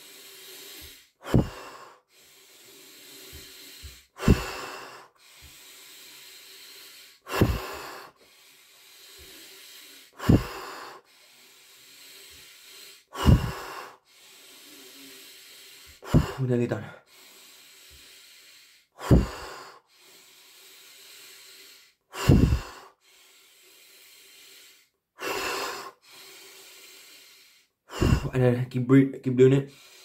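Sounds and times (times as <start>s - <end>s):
man breathing deeply: 0.0s - 28.4s, 29.6s - 30.0s.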